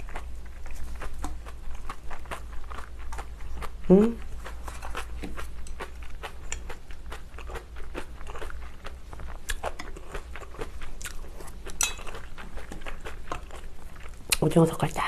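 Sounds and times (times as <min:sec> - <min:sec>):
wet crunchy chewing: 0:00.0 - 0:14.6.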